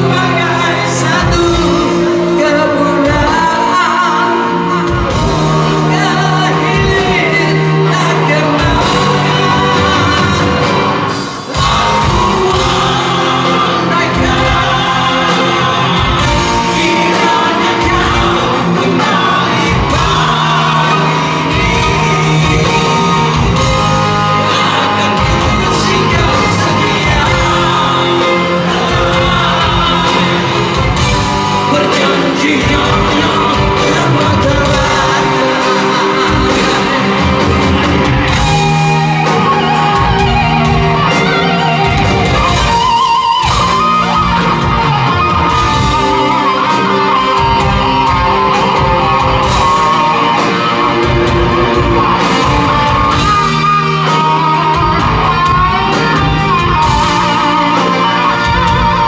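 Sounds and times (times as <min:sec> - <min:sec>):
person singing: 0:00.0 - 0:59.0
rock band playing live: 0:00.0 - 0:59.0.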